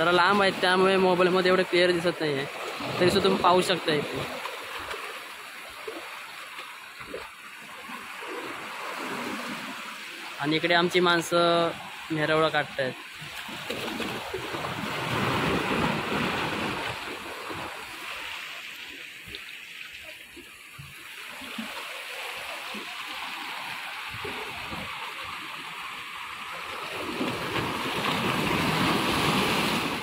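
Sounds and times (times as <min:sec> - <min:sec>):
sea water washing over rocks: 0:00.0 - 0:30.0.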